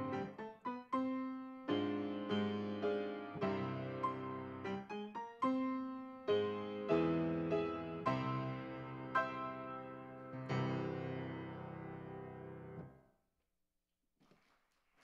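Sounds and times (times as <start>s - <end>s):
piano playing slow chords: 0.0s - 12.9s.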